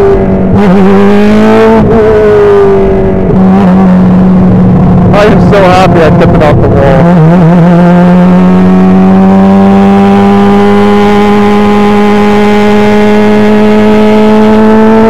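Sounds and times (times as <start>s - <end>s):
racing car engine: 0.0s - 15.0s.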